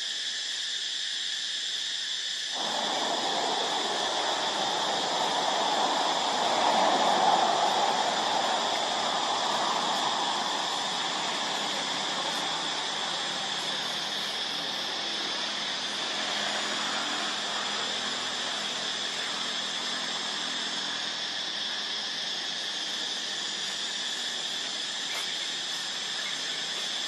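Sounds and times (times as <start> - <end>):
insect chorus buzzing: 0.0 - 27.0.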